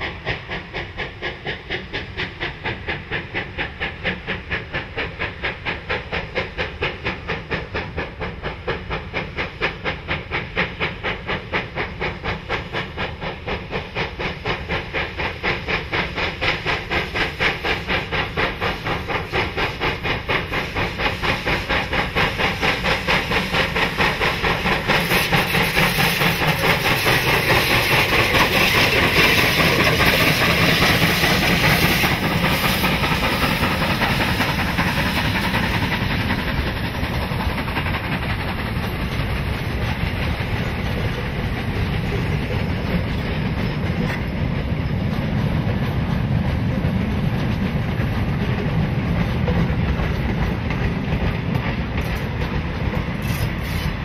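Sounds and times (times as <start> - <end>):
steam hiss: 0.0 - 54.0
steam locomotive exhaust beats: 0.0 - 54.0.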